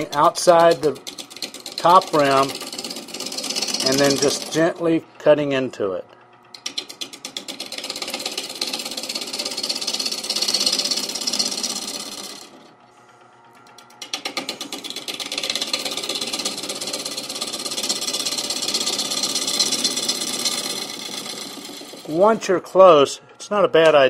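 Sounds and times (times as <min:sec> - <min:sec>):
gouge cutting wood on lathe: 0:00.0 - 0:05.1, 0:06.5 - 0:12.8, 0:13.6 - 0:23.0.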